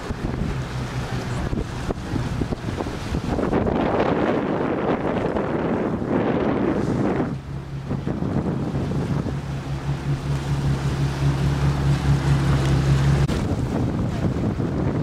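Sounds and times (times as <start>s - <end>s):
low hum: 0.0s - 14.8s
wind buffeting microphone: 0.0s - 15.0s.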